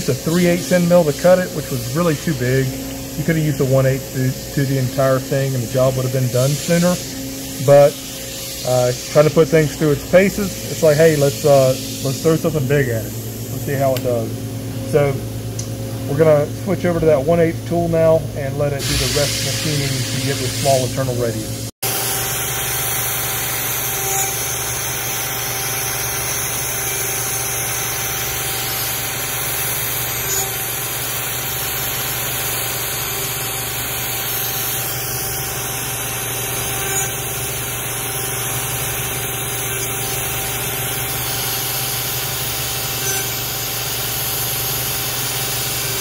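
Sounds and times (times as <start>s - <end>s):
router spindle hum and hiss: 0.0s - 46.0s.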